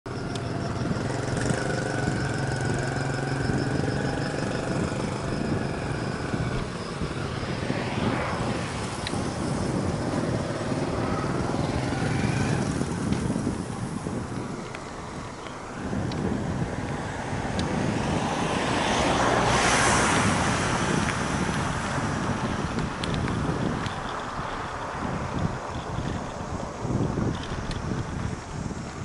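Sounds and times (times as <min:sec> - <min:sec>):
vehicle engine running: 0:00.0 - 0:29.0
wind rumble on microphone: 0:00.0 - 0:29.0.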